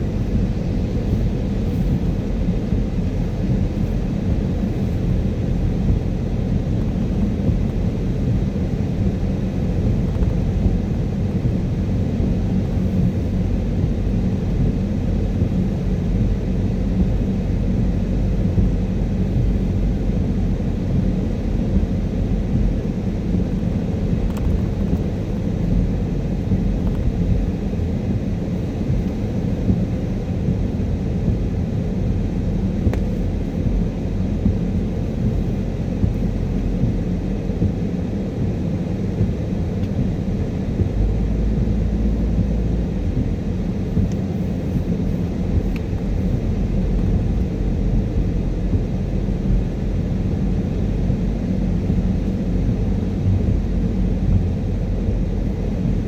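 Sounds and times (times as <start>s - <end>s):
car tyres on wet road: 0.0s - 56.0s.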